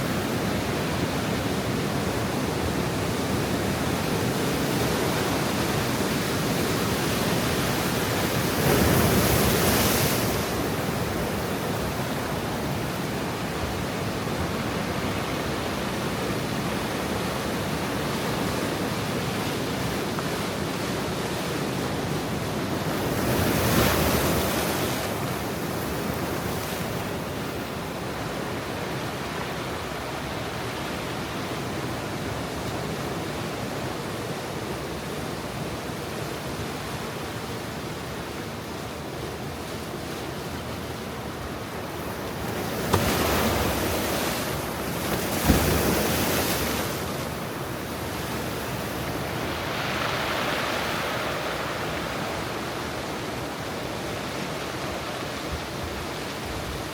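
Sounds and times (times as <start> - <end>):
ocean surf washing: 0.0 - 56.9
waves breaking: 0.0 - 56.9.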